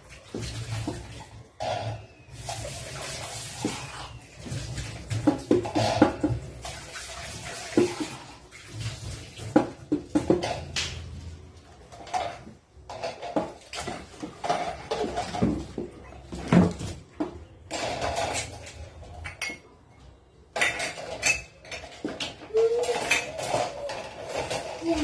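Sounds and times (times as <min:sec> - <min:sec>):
dishes and cutlery clattering: 0:00.3 - 0:07.0, 0:09.4 - 0:11.2, 0:11.8 - 0:25.0.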